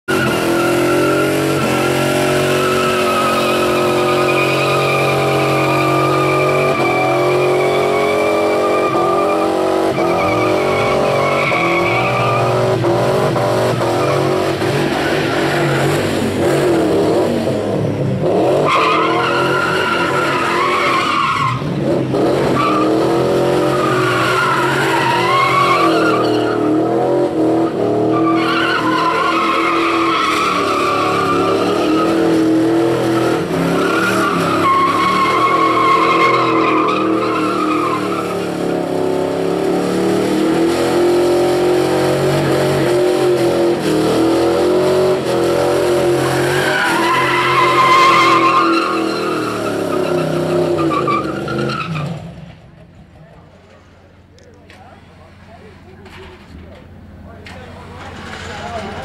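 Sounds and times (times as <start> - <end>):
tyres squealing: 0.1 - 16.8, 18.5 - 39.2, 41.4 - 52.1
engine at high revs: 0.1 - 50.9.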